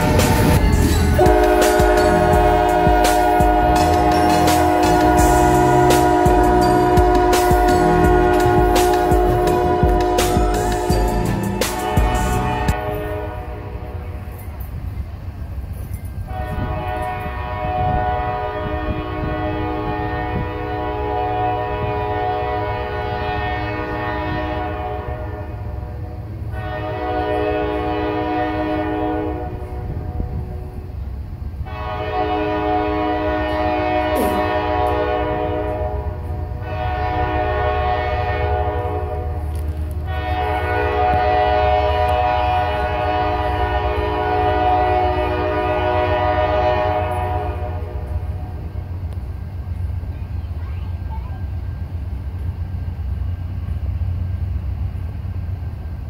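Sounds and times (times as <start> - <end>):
deep rumble of train: 0.0 - 56.0
locomotive air horn blasts: 1.2 - 14.4, 16.2 - 30.9, 31.6 - 48.7.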